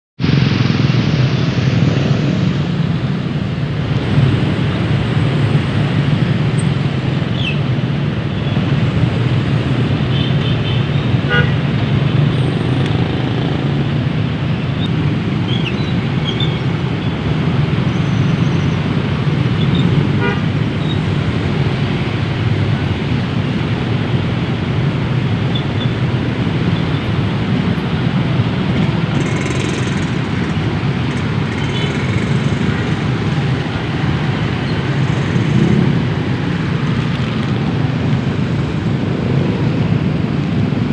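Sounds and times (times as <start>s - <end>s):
traffic rumble: 0.2s - 40.9s.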